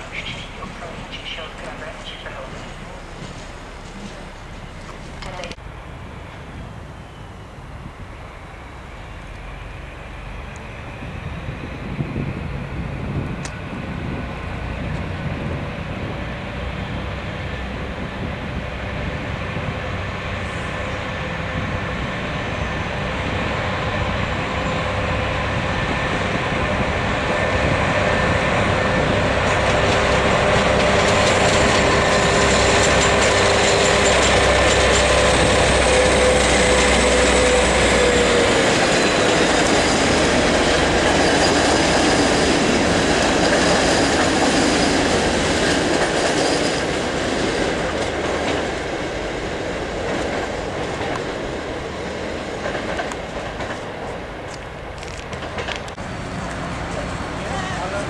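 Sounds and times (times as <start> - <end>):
train rumble: 0.0 - 58.0
train wheels on rails: 0.0 - 58.0.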